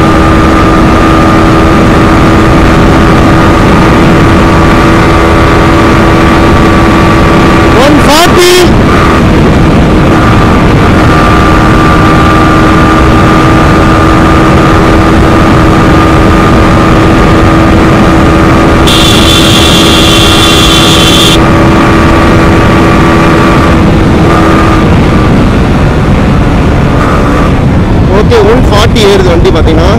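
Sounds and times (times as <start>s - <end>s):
motorcycle engine at high revs: 0.0s - 28.5s
wind rush on microphone: 0.0s - 29.9s.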